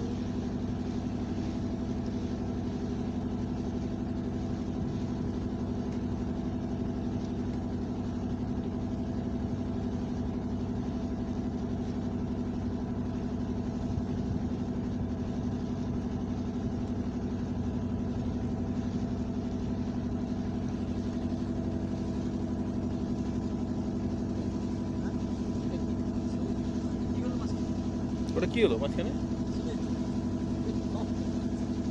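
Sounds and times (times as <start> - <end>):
engine humming steadily: 0.0 - 31.9.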